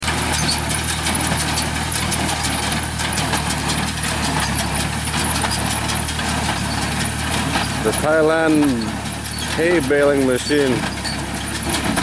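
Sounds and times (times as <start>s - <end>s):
baler mechanical clatter: 0.0s - 12.0s
tractor engine hum: 0.0s - 12.0s.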